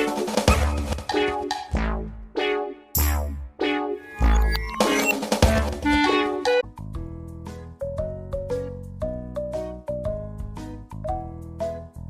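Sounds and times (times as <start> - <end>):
upbeat bouncy background music: 0.0 - 12.0.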